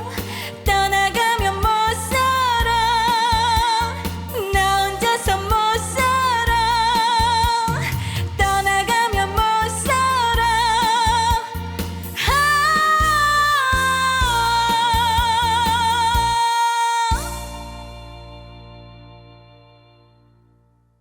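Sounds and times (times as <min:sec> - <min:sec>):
woman singing with vibrato: 0:00.0 - 0:19.3.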